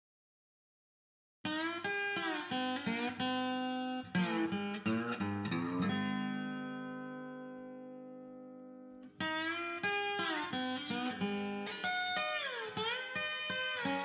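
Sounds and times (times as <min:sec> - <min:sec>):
guitar music: 0:01.5 - 0:14.0.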